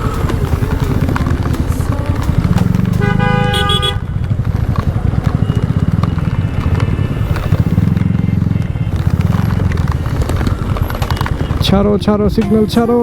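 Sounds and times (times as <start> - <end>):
heavy rain: 0.0 - 11.6
motorcycle idling: 0.0 - 13.0
traffic rumble: 0.0 - 13.0
vehicle horn honking: 0.0 - 13.0.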